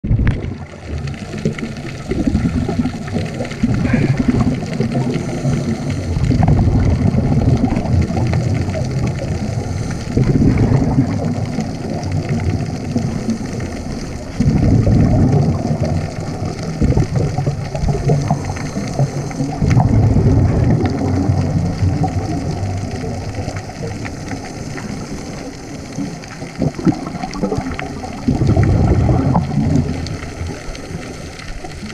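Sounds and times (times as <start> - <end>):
diver's bubbles gurgling underwater: 0.0 - 31.9
water hiss: 0.6 - 31.9.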